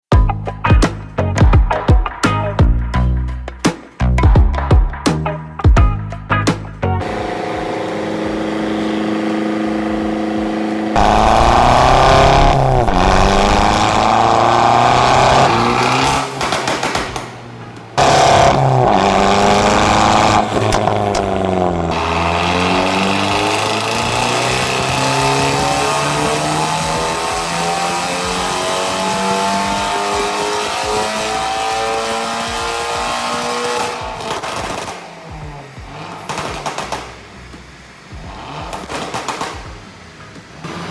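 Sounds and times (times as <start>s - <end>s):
car engine idling and revving: 6.4s - 40.9s
exhaust cracks: 7.0s - 40.9s.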